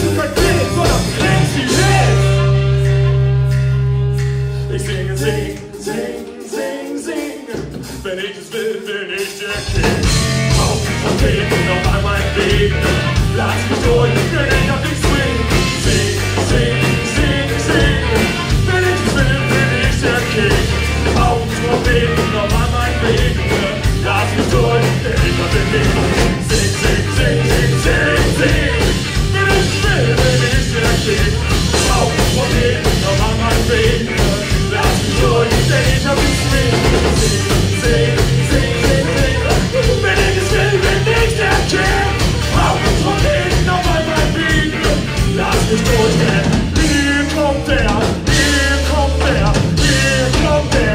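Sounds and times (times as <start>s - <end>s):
steady drum beat: 0.0s - 3.1s, 9.2s - 50.9s
heavy bass line: 0.0s - 6.5s, 9.6s - 50.9s
live band playing: 0.0s - 50.9s.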